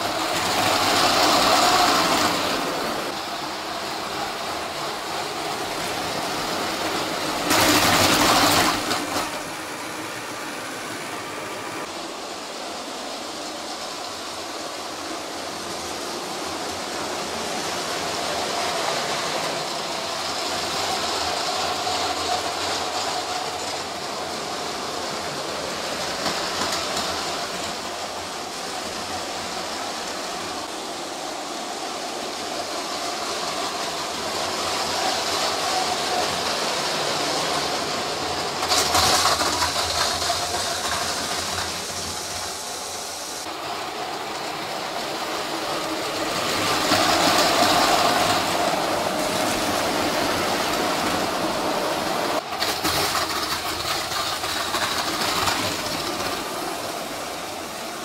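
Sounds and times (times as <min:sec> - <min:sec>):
toy train wheels rattling: 0:00.0 - 0:10.4, 0:13.4 - 0:58.0
toy trains colliding clatter: 0:00.0 - 0:11.5, 0:13.4 - 0:30.8, 0:32.0 - 0:58.0.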